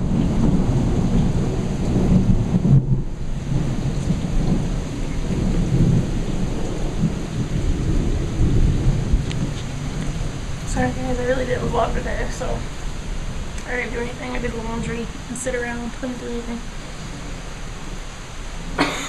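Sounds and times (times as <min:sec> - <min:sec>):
rain hissing: 0:00.0 - 0:19.0
thunder rumbling: 0:00.0 - 0:19.0.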